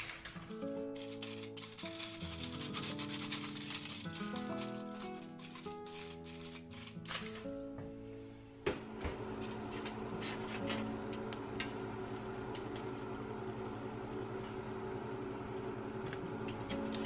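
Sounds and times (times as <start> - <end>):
oven humming: 0.1 - 7.4, 8.3 - 17.0.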